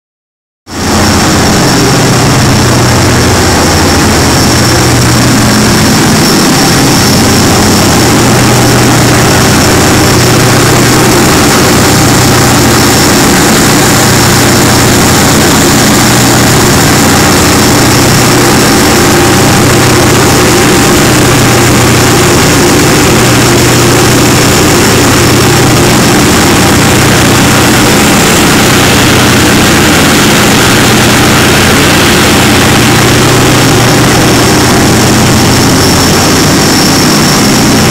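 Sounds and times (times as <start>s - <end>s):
boat engines droning: 0.7s - 37.9s
rushing wake hiss: 0.7s - 37.9s.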